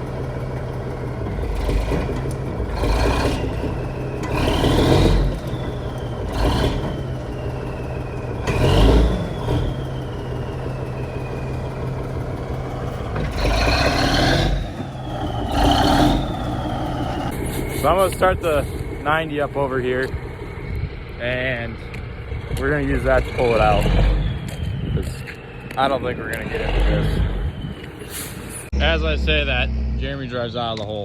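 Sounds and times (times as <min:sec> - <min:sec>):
truck engine revving under load: 0:00.0 - 0:31.0.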